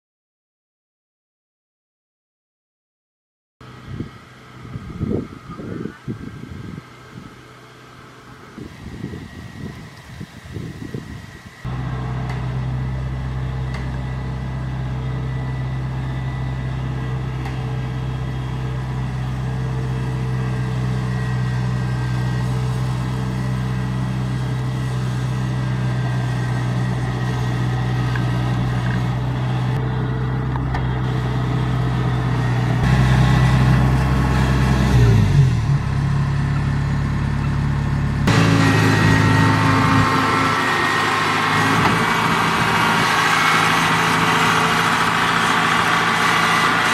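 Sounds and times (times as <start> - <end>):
diesel engine running: 3.6 - 46.9.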